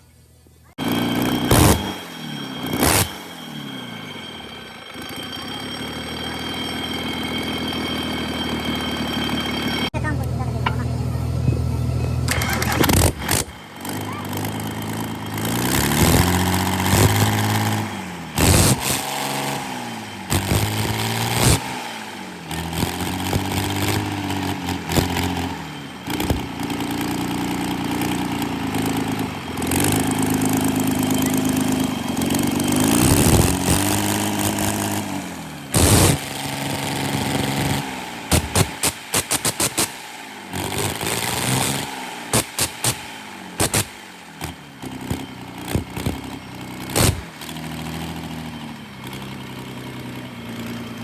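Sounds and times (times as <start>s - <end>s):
bulldozer diesel engine revving: 0.7s - 51.0s.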